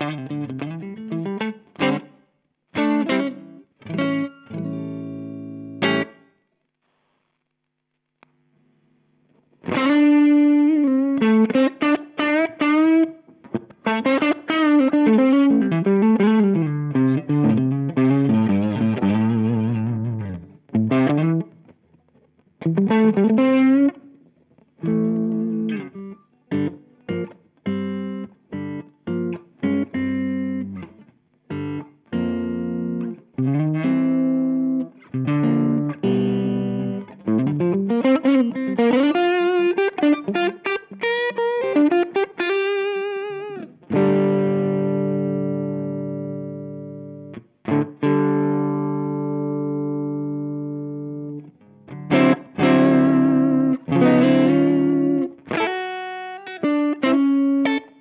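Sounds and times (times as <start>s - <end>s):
overdriven electric guitar: 0.0s - 6.4s, 9.3s - 58.0s.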